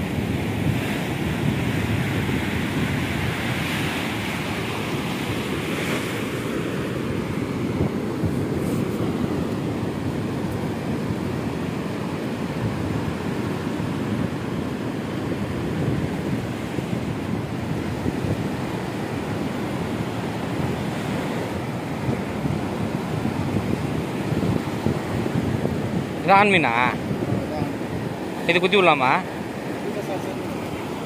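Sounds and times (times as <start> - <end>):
surf breaking on beach: 0.0 - 31.0
wind rumbling on microphone: 0.0 - 31.0.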